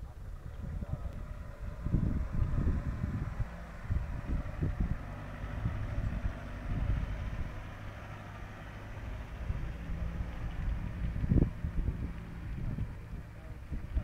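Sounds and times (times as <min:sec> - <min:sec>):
truck engine at low revs: 0:00.0 - 0:14.0
wind buffeting microphone: 0:00.0 - 0:14.0.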